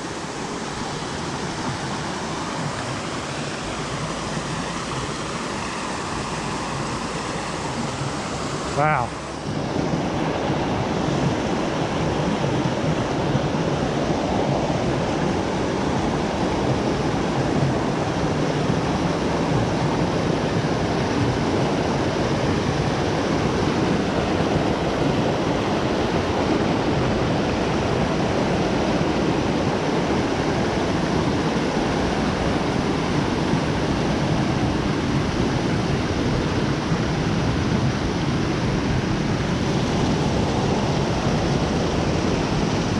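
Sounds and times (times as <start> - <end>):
creek rushing over rocks: 0.0 - 42.9.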